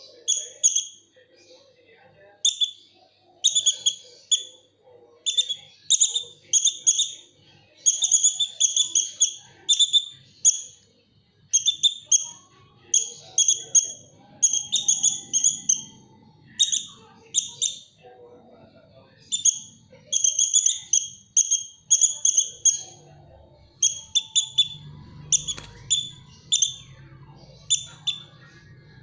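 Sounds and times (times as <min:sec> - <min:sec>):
lovebird chirping: 0:00.0 - 0:01.1, 0:02.4 - 0:29.0.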